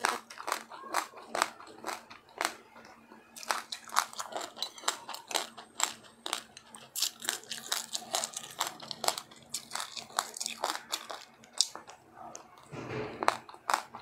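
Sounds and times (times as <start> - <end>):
crunchy food chewing: 0.0 - 14.0.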